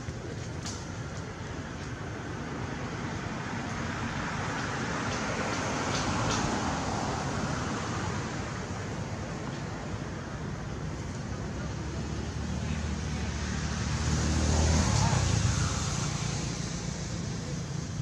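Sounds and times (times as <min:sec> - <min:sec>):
rushing background noise: 0:00.0 - 0:18.0.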